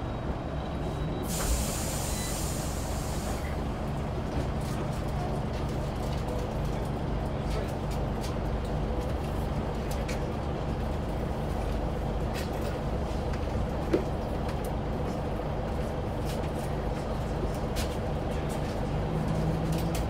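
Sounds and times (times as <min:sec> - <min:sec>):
bus diesel engine rumbling: 0:00.0 - 0:20.0.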